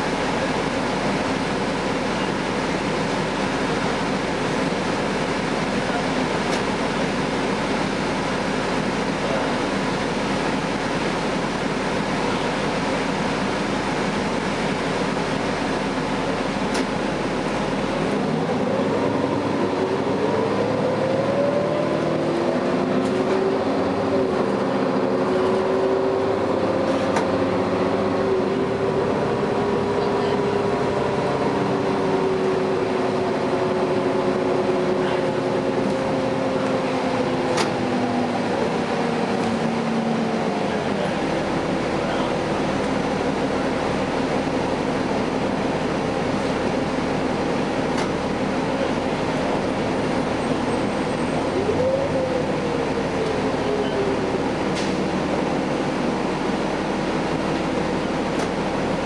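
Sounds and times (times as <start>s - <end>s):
bus engine drone: 0.0s - 59.0s
rising transmission whine: 0.0s - 59.0s.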